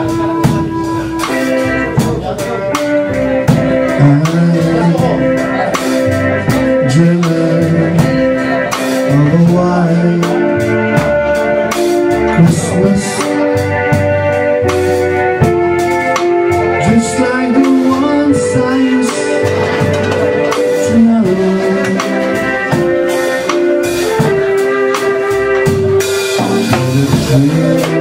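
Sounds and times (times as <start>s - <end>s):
bass line: 0.0s - 28.0s
drum kit beat: 0.0s - 28.0s
guitar: 0.0s - 28.0s
keyboard: 0.0s - 28.0s.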